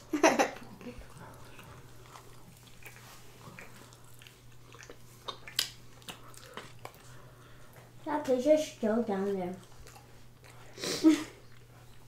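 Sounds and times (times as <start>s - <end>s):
chewing and biting food: 0.6s - 8.0s, 9.5s - 12.0s.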